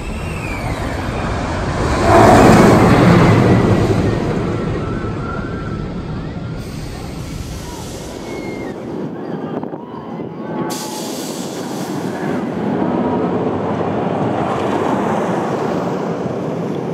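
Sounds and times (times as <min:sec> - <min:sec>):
roller coaster train rumbling on track: 0:00.0 - 0:16.9.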